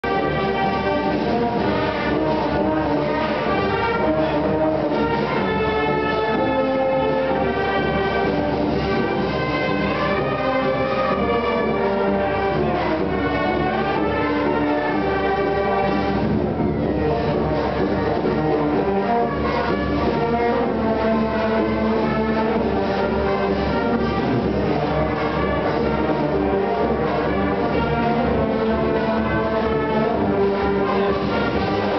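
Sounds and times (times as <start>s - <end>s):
brass-led wind band playing: 0.0s - 31.9s.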